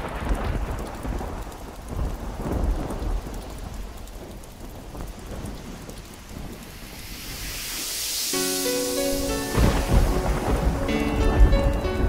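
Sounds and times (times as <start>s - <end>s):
steady rain: 0.0s - 12.0s
thunder rumble: 0.0s - 12.0s.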